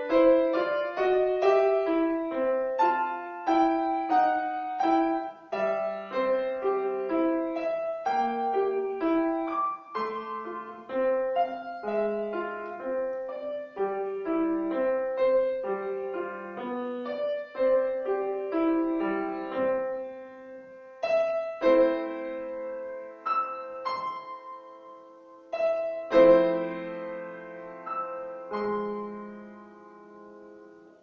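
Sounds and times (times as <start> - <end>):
solo piano: 0.0 - 31.0.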